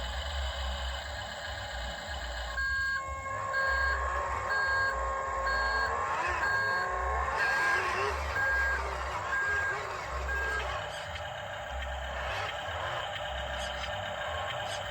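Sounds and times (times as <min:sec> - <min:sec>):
hum and low pulsing rumble: 0:00.0 - 0:14.9
electronic reversing beeper: 0:02.1 - 0:14.9.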